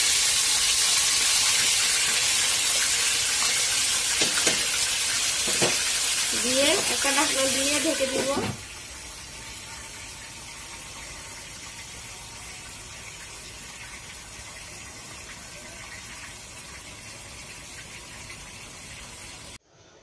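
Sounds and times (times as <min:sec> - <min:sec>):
chicken sizzling in oil: 0:00.0 - 0:19.6.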